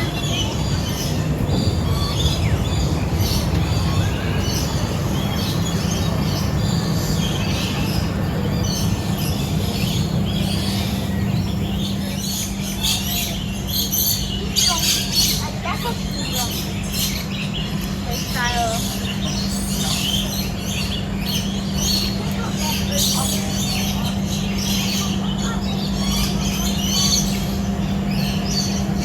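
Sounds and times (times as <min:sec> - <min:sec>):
birds chirping: 0:00.0 - 0:29.0
steady low rumble: 0:00.0 - 0:29.0.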